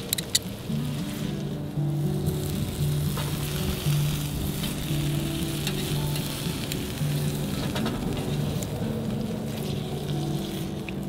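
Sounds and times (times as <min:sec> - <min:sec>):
slow low background music: 0:00.4 - 0:11.0
steak sizzling on a griddle: 0:00.4 - 0:11.0.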